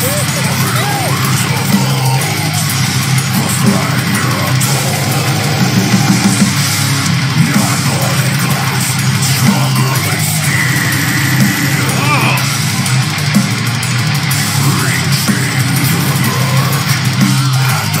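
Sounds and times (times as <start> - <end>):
heavy metal song: 0.0 - 18.0.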